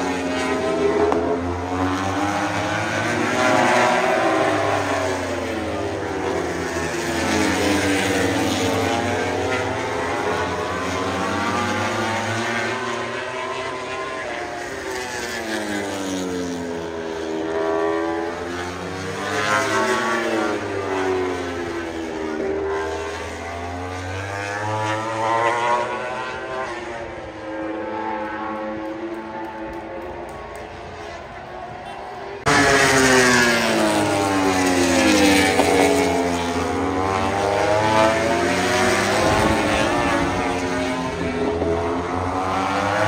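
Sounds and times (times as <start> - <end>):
propeller aircraft engine droning: 0.0 - 43.0.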